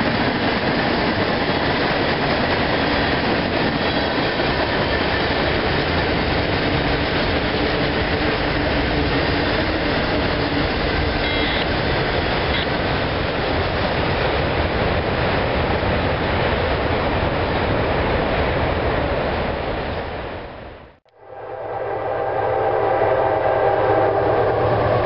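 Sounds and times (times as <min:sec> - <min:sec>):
steel wheels on rails: 0:00.0 - 0:20.1.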